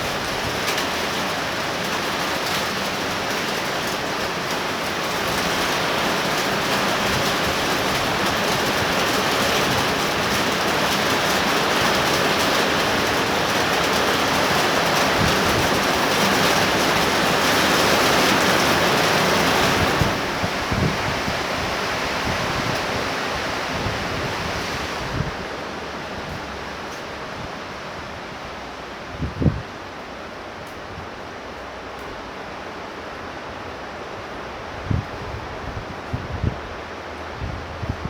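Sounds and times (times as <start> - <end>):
torrential rain pouring: 0.0 - 38.0.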